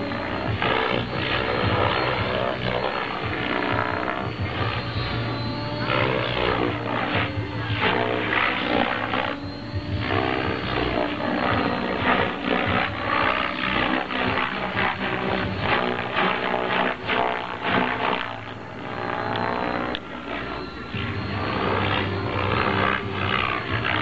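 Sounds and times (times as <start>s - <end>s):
rc helicopter rotor and motor: 0.0s - 24.0s.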